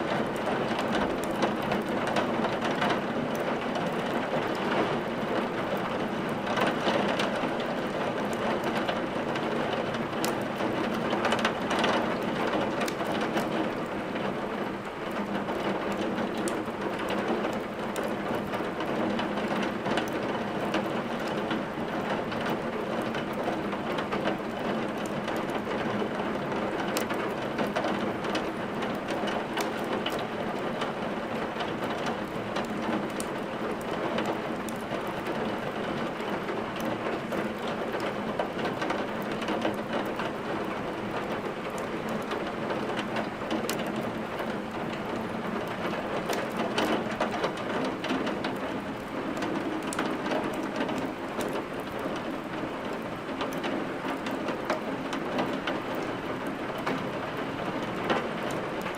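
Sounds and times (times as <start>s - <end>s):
wood fire crackling: 0.1s - 58.9s.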